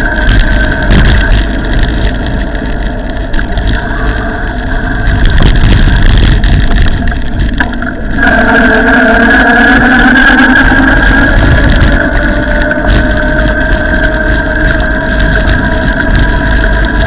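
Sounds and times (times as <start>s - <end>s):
electric motor whine: 0.0s - 17.0s
wind buffeting camera: 0.0s - 17.0s.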